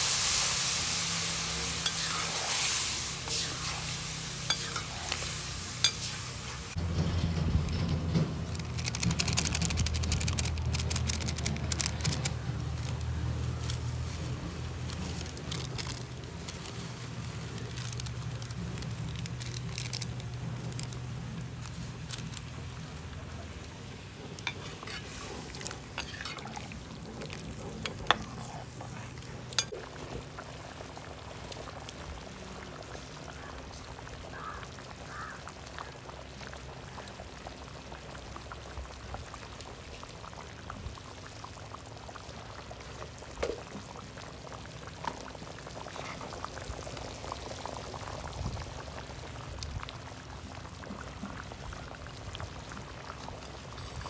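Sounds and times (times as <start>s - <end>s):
soup bubbling at a boil: 0.0s - 6.8s, 7.7s - 54.0s.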